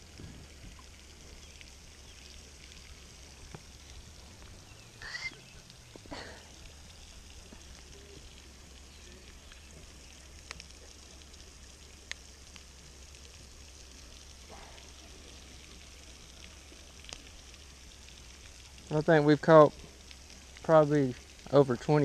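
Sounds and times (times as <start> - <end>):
fountain spray hissing on water: 0.0 - 22.0.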